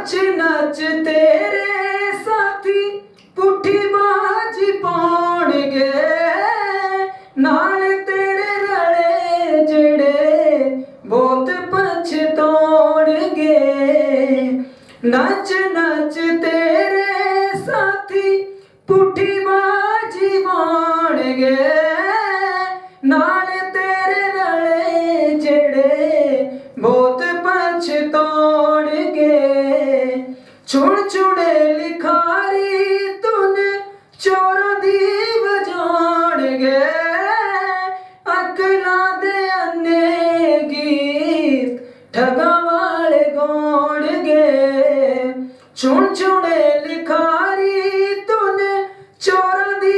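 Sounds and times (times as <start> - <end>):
boy singing into a microphone: 0.0 - 49.9.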